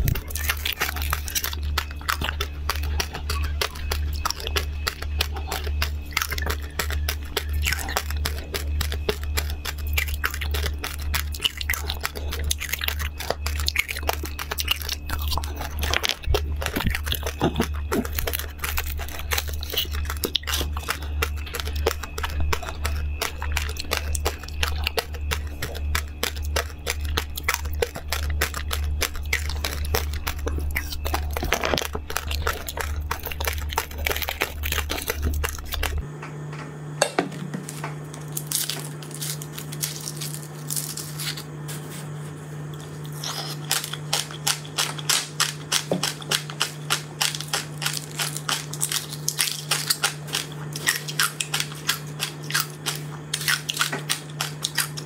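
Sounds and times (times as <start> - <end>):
crunchy chewing of candy: 0.0 - 36.1, 37.4 - 55.0
foil wrapper crinkling: 0.0 - 36.1, 37.5 - 55.0
steady low hum: 0.0 - 55.0.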